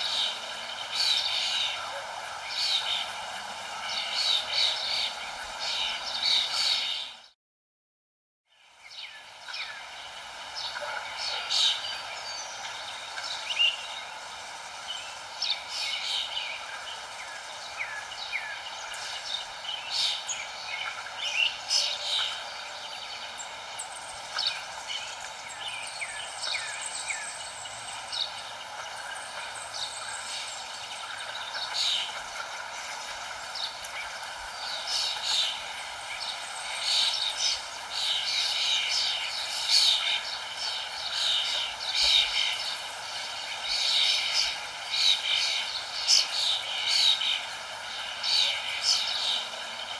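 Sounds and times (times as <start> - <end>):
birds chirping: 0.0 - 7.3, 8.8 - 49.9
steady background hiss: 0.0 - 7.3, 8.5 - 49.9.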